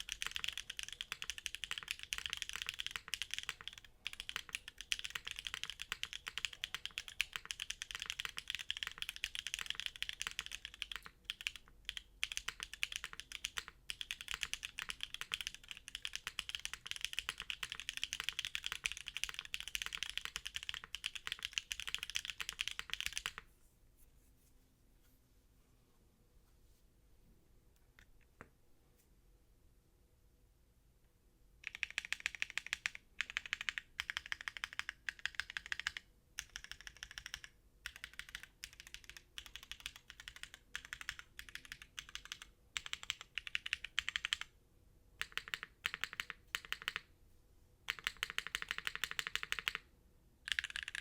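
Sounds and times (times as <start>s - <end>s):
mechanical keyboard typing: 0.0s - 23.4s, 31.6s - 44.5s, 45.2s - 47.1s, 47.9s - 51.0s.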